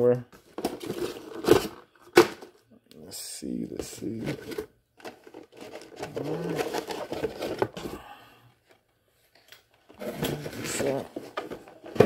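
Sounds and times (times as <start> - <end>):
cardboard and plastic rustling: 0.3 - 2.6, 3.8 - 12.0.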